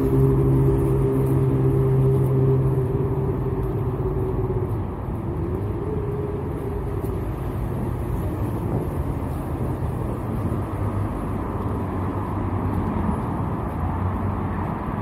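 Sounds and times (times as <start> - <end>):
low rumble: 0.0 - 15.0
vehicle engine hum: 0.0 - 15.0.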